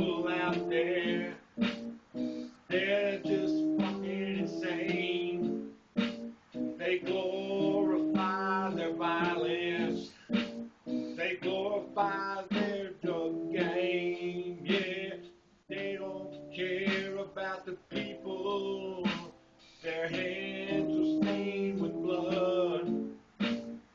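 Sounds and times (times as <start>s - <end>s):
electronic keyboard melody: 0.0s - 23.9s.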